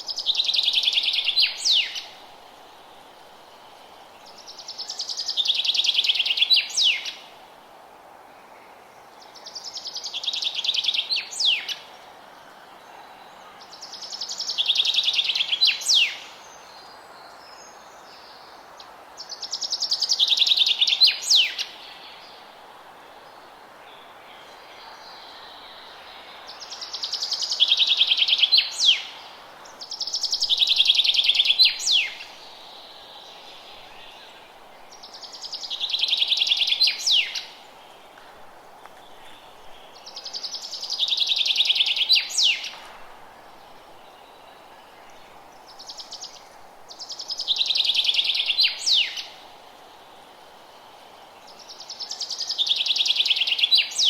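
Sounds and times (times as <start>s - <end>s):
forest ambience hiss: 0.0s - 54.0s.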